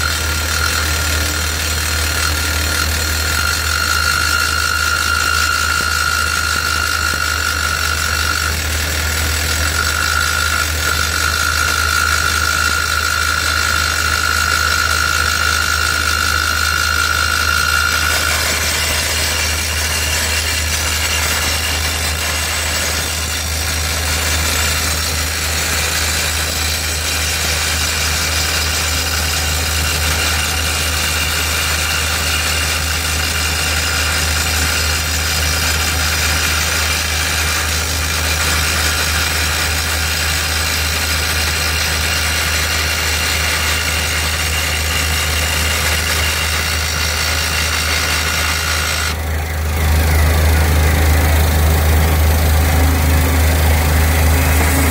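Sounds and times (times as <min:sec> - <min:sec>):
high steady squeal: 0:00.0 - 0:40.3, 0:40.9 - 0:54.9
drill grinding into concrete: 0:00.0 - 0:54.9
skid steer engine running: 0:00.0 - 0:54.9.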